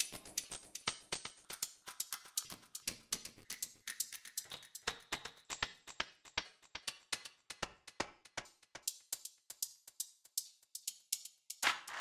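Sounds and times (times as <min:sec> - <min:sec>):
percussion clicks and ticks: 0:00.0 - 0:12.0.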